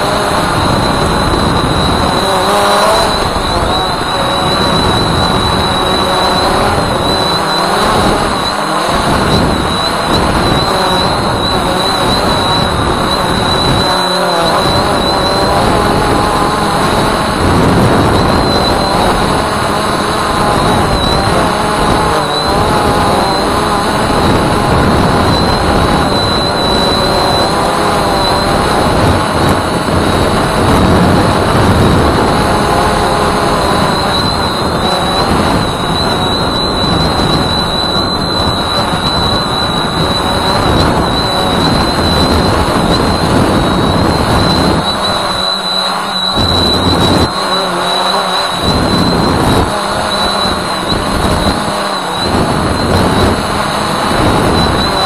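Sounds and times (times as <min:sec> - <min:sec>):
drone motors buzzing: 0:00.0 - 0:55.0
steady high whine: 0:00.0 - 0:55.0.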